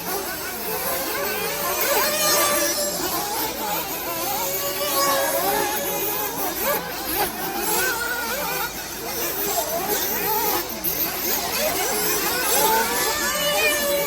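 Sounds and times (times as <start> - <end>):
model car engines revving: 0.0 - 14.0.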